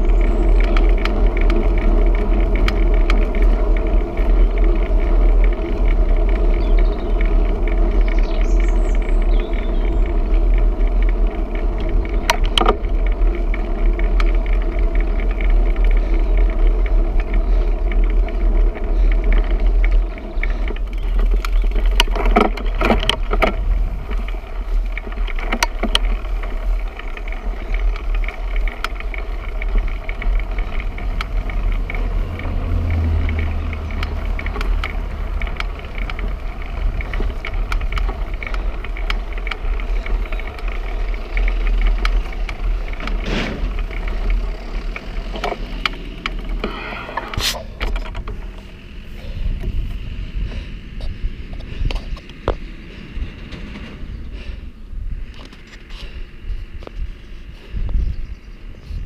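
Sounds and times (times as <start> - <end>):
bicycle tyre and road noise: 0.0 - 59.0
wind rumble on microphone: 0.0 - 59.0.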